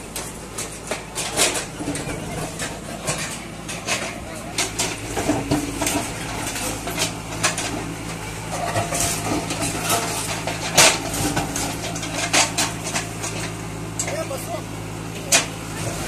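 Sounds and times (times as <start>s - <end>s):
bucket clanking on rubble and metal: 0.0s - 16.0s
diesel engine running: 0.0s - 16.0s.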